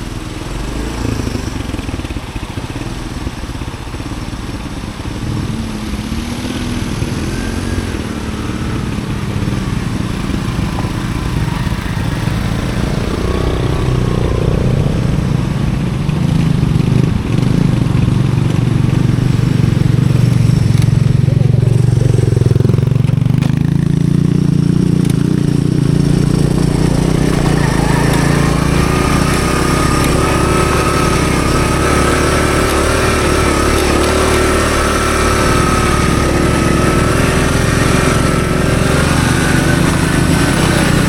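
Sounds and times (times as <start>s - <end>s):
motorbike engine running: 0.0s - 41.0s.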